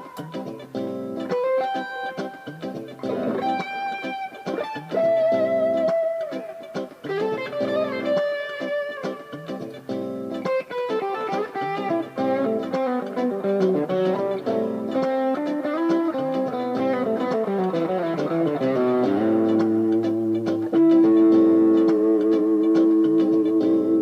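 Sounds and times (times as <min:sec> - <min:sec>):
electric guitar lead lines: 0:00.0 - 0:24.0.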